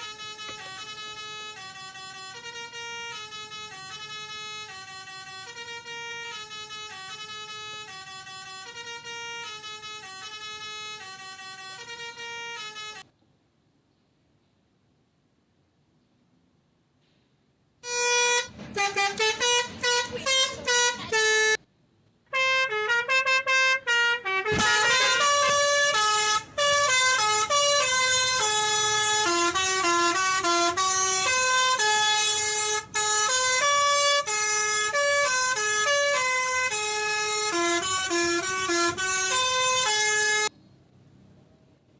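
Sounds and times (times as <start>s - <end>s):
melodica playing a fast tune: 0.0s - 13.0s, 17.8s - 21.6s, 22.4s - 40.5s.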